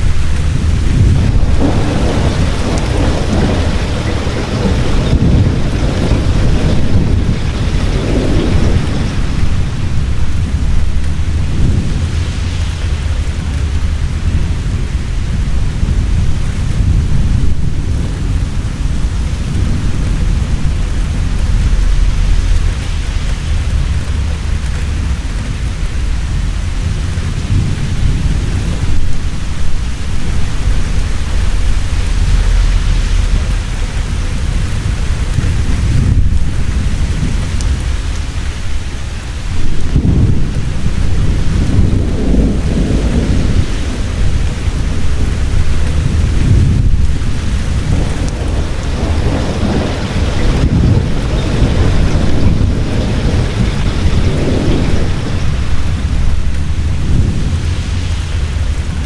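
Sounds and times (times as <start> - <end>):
heavy rain falling: 0.0 - 59.0
thunder rumbling: 0.0 - 59.0.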